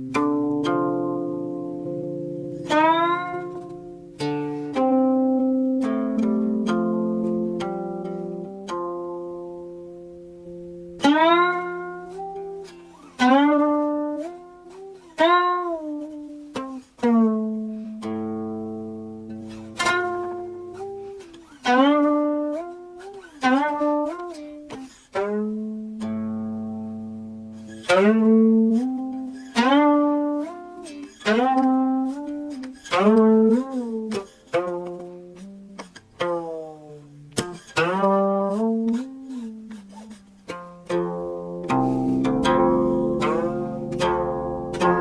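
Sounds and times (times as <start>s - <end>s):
plucked string instrument melody: 0.0s - 45.0s.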